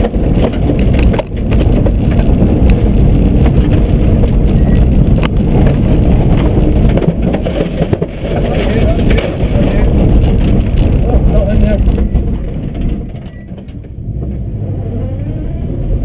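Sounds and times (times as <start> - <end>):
rally car engine: 0.0 - 16.0
road noise: 0.0 - 16.0.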